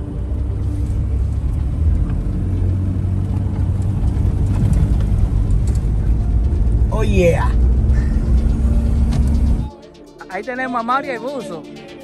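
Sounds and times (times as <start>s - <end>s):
car rumbling over dirt road: 0.0s - 9.7s.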